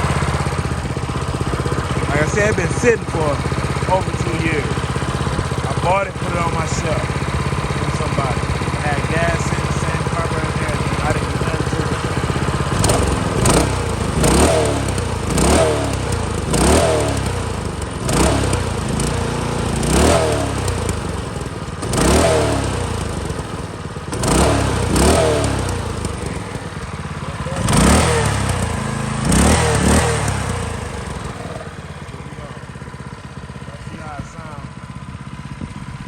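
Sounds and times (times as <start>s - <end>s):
small engine revving: 0.0s - 36.0s.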